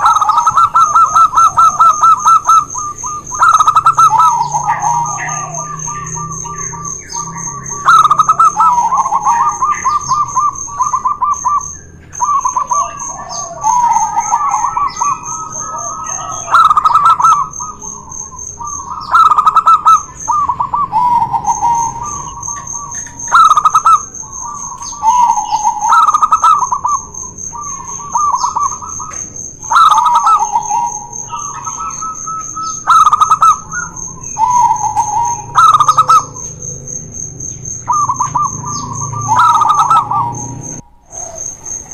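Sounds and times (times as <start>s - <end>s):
doves cooing: 0.0s - 41.9s
high-pitched whine: 0.0s - 41.9s.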